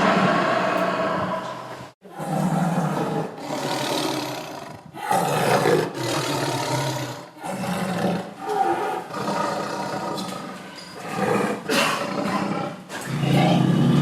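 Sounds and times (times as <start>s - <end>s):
tiger roaring: 0.0s - 14.0s.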